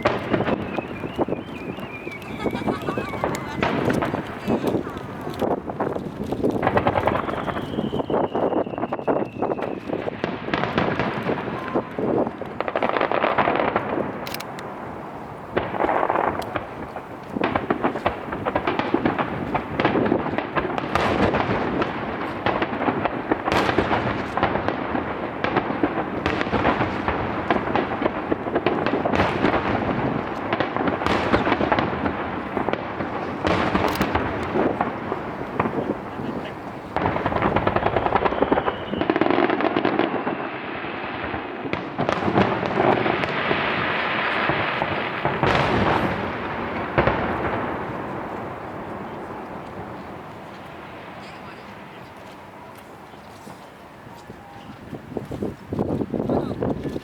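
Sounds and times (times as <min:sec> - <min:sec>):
firework shells bursting: 0:00.0 - 0:53.9
fireworks crackling: 0:00.0 - 0:57.0.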